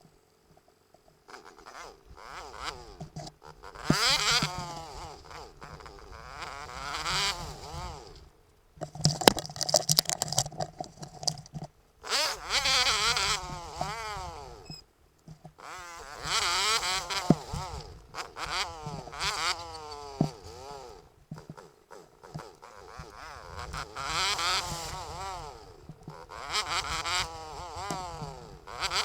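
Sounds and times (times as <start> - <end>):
motorbike engine revving: 1.3 - 14.8, 15.5 - 29.0.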